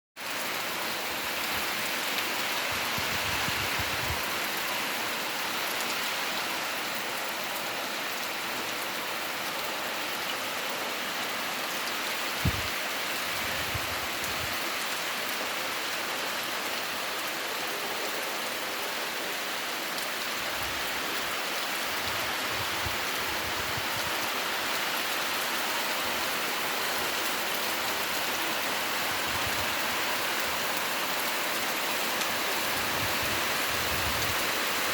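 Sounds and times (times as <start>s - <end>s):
heavy rain: 0.2s - 34.9s.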